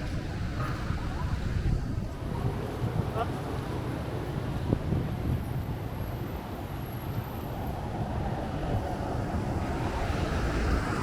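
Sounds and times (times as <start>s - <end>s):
outdoor background noise: 0.0s - 11.0s
wind buffeting microphone: 0.0s - 11.0s.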